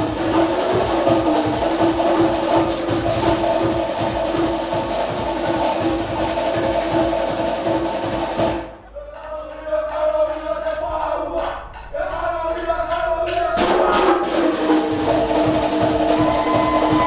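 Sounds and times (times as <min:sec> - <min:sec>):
wooden slit drums rolling: 0:00.0 - 0:08.7, 0:11.4 - 0:17.0
drummers chanting in unison: 0:00.0 - 0:17.0.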